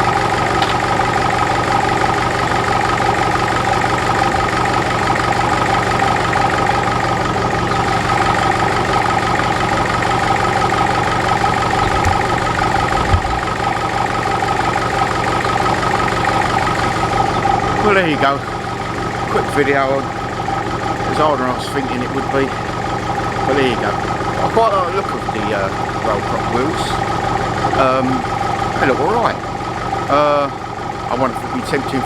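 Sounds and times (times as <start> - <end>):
diesel tractor engine idling: 0.0 - 32.0.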